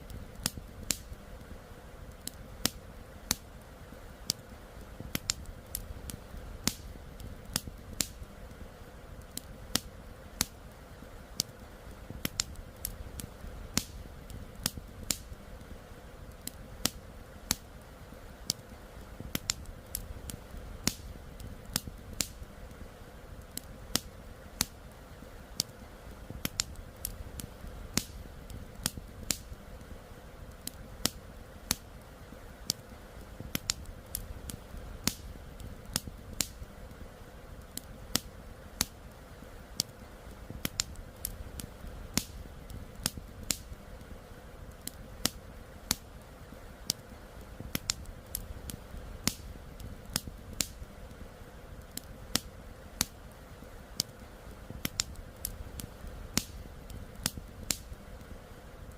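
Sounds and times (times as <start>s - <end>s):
campfire crackling and popping: 0.0s - 58.9s.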